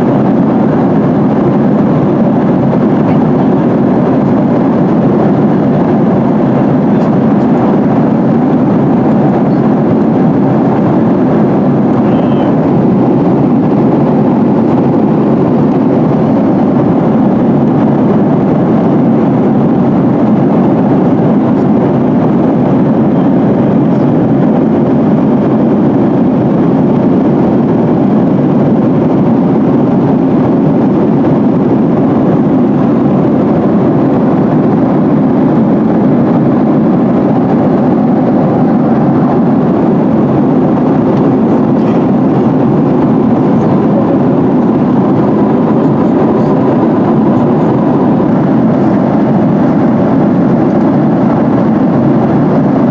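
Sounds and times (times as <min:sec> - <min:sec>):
aircraft cabin engine rumble: 0:00.0 - 0:52.9
airflow over fuselage: 0:00.0 - 0:52.9.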